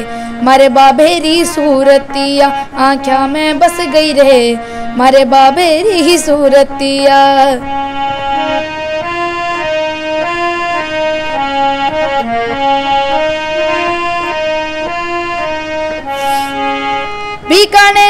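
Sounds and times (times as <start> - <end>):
harmonium melody: 0.0 - 18.0.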